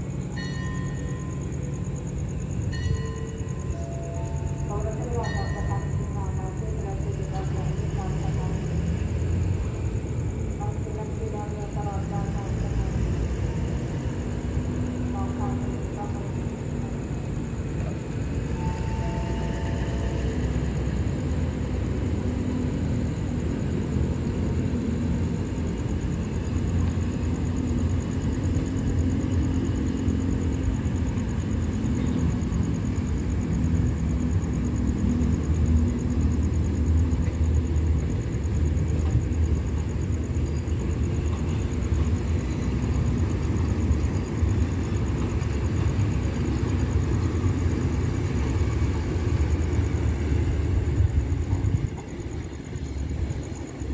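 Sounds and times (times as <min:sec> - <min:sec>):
train coaches rumbling past: 0:00.0 - 0:53.9.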